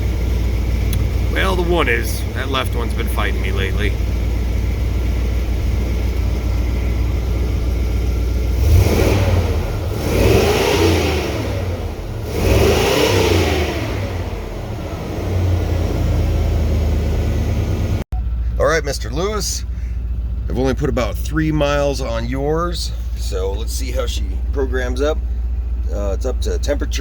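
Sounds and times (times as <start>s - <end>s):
engine idling and revving: 0.0s - 27.0s.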